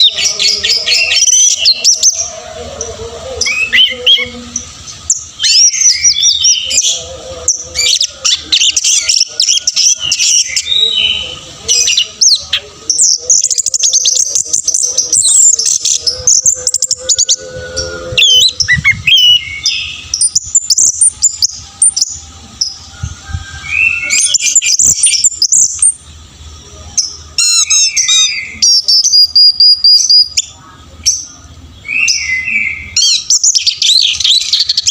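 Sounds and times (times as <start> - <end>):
thrush singing whistled phrases: 0.0 - 30.5, 31.1 - 34.9.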